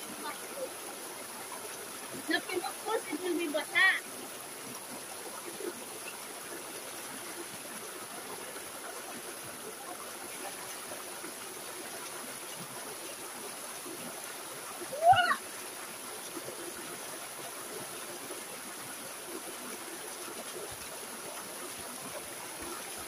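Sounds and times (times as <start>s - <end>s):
stream water over boulders: 0.0s - 23.0s.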